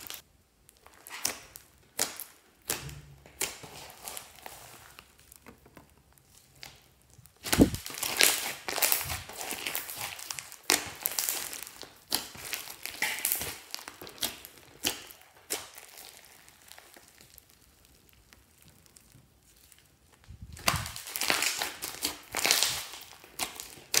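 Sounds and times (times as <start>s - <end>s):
foam beads crackling: 0.0s - 2.4s, 3.3s - 24.0s
hands squishing slime: 0.0s - 24.0s.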